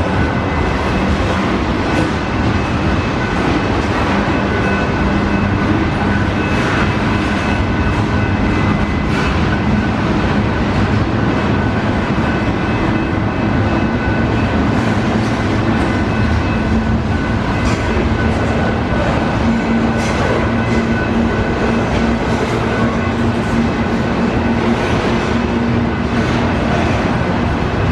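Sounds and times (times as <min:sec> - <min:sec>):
freight train cars rolling past: 0:00.0 - 0:27.9.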